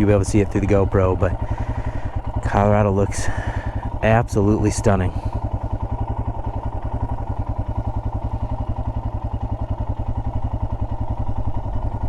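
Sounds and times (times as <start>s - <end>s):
single-cylinder engine idling: 0.0s - 12.0s.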